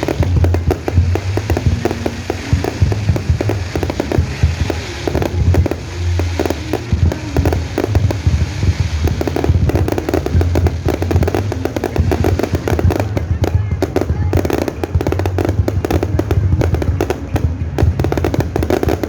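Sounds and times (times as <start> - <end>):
deep fireworks booms: 0.0 - 19.0
fireworks bangs and crackles: 0.0 - 19.0.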